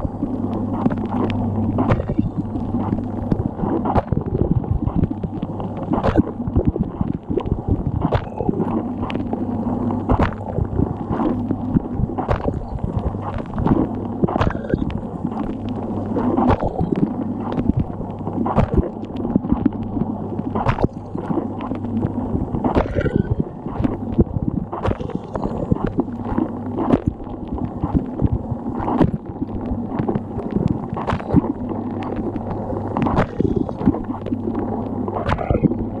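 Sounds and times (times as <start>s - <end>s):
water sloshing and spraying: 0.0s - 34.4s.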